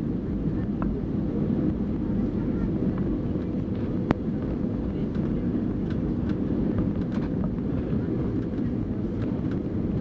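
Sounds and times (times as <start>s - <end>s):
jet engine rumble in cabin: 0.0s - 10.0s.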